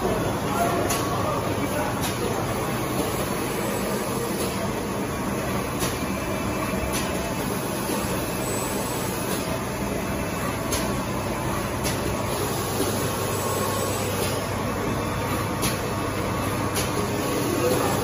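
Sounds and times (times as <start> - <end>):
printing machine humming: 0.0 - 18.0.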